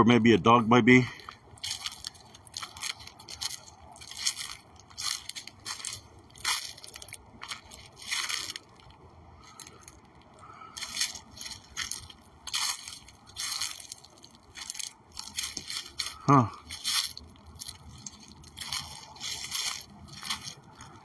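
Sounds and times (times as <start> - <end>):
footsteps crunching through dry leaves: 1.1 - 21.0.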